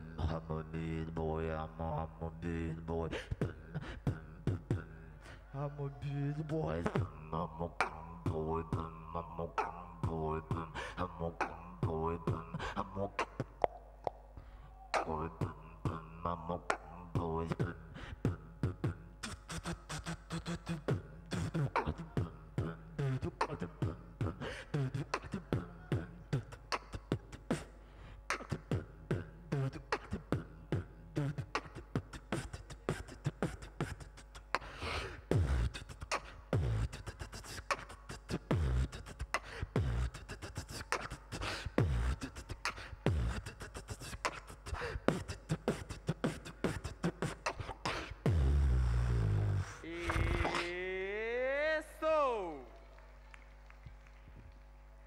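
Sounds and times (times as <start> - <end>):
beatboxing into a microphone: 0.0 - 52.8.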